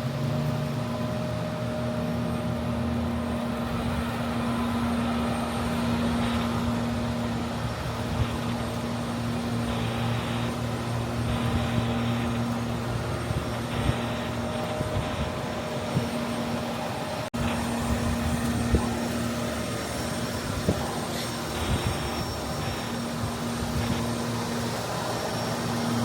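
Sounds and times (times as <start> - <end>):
constant hum: 0.0 - 26.0
engine droning: 0.0 - 26.0.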